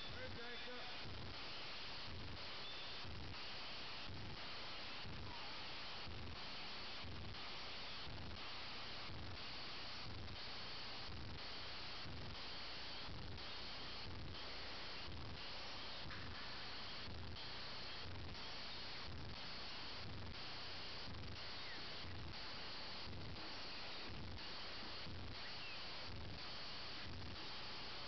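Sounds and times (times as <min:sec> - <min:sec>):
faint regular pulsing: 0:00.0 - 0:28.0
recording hiss and hum: 0:00.0 - 0:28.0.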